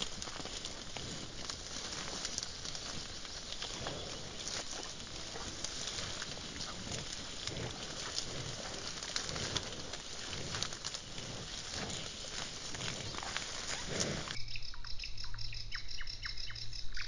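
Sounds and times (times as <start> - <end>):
wild birds chirping: 0.0 - 17.0.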